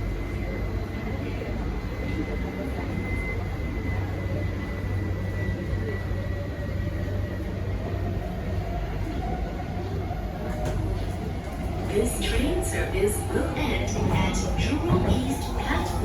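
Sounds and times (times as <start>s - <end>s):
train car low rumble: 0.0s - 16.0s.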